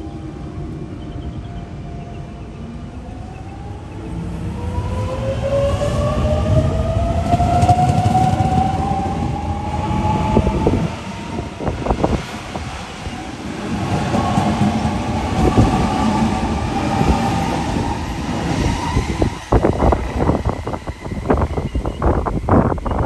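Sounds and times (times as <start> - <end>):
low train rumble: 0.0 - 23.0.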